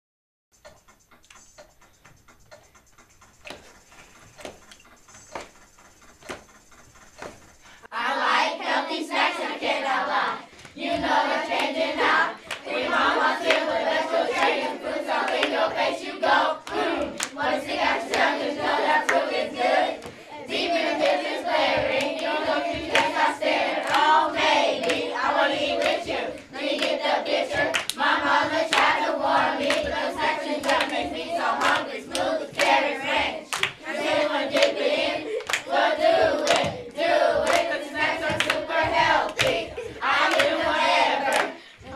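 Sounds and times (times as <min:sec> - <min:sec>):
hand claps: 0:00.6 - 0:07.6, 0:10.6 - 0:15.9, 0:16.6 - 0:19.4, 0:21.0 - 0:41.7
children rapping and chanting: 0:00.6 - 0:41.9.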